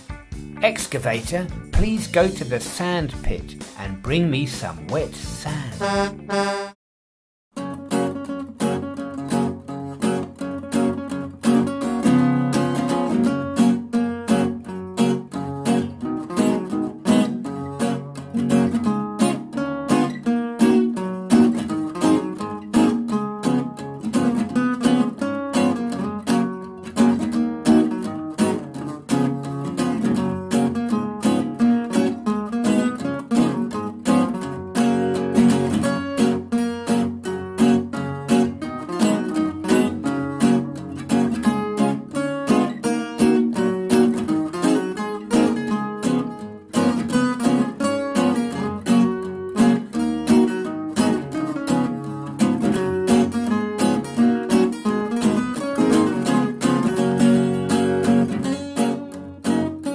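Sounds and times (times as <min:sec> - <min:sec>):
music with plucked notes: 0:00.0 - 0:06.8, 0:07.6 - 0:59.9.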